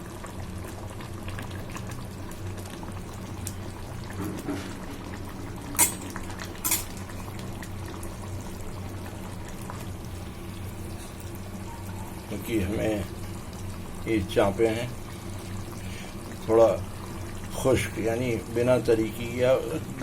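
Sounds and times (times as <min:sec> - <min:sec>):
gravy bubbling in a pan: 0:00.0 - 0:20.0.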